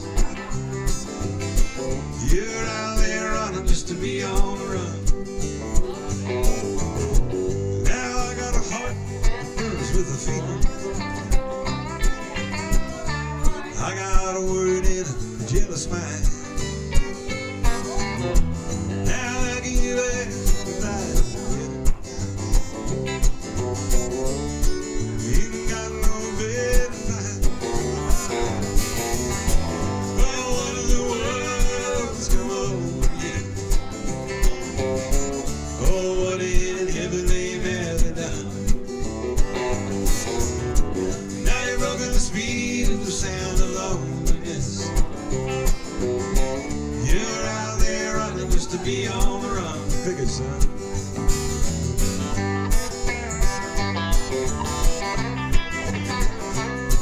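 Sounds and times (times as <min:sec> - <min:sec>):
electric guitar lead lines: 0:00.0 - 0:57.0
strummed acoustic guitar: 0:00.0 - 0:57.0.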